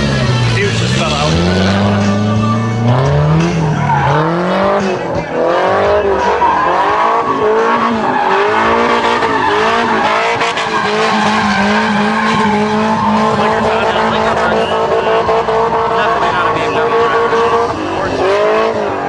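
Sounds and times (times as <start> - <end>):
car engine revving hard: 0.0 - 19.0
tires squealing: 0.0 - 19.0.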